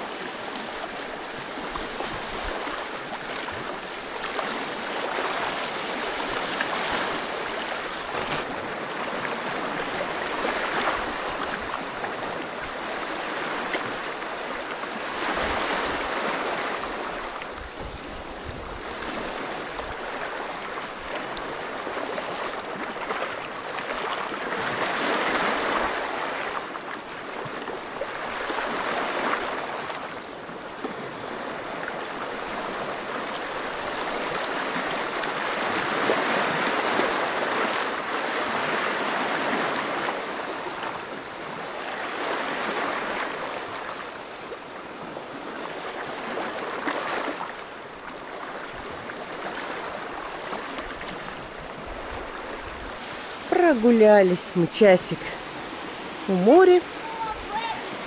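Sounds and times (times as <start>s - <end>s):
sea surf washing ashore: 0.0s - 58.0s.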